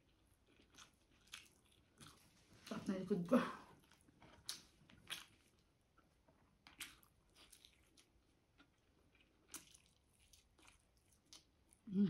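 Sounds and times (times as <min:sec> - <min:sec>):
chewing food: 0:00.0 - 0:02.9, 0:03.7 - 0:11.9.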